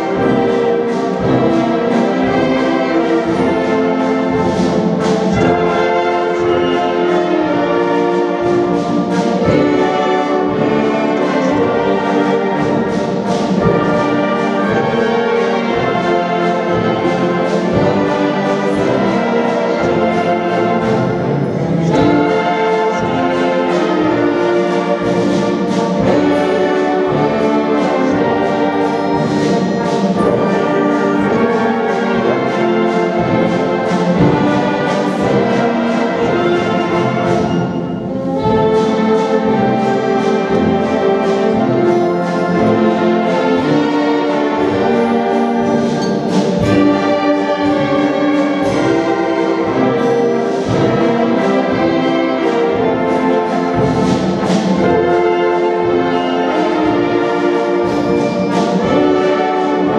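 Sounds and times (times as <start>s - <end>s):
steady drum beat: 0.0s - 59.9s
wind band playing: 0.0s - 59.9s.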